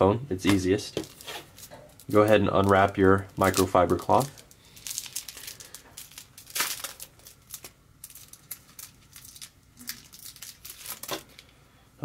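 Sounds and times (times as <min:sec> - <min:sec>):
plastic wrapper crinkling and tearing: 0:01.0 - 0:11.5.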